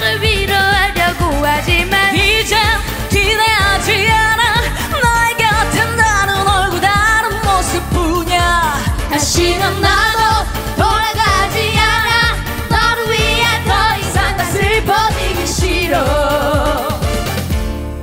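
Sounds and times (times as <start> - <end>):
women singing dance-pop song: 0.0 - 17.4
backing track with steady beat: 0.0 - 18.0.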